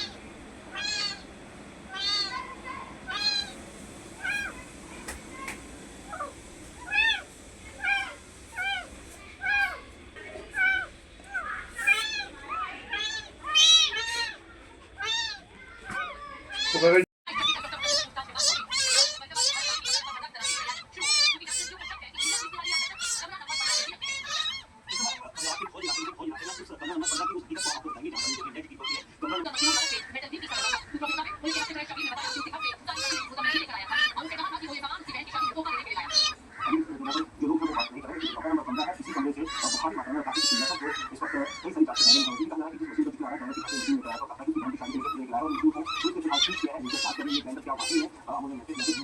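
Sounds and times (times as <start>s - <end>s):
high-pitched animal calls: 0.0s - 1.3s, 1.9s - 3.6s, 4.2s - 4.7s, 5.4s - 49.0s
kittens meowing: 0.0s - 1.3s, 1.9s - 3.6s, 4.2s - 4.8s, 5.4s - 49.0s.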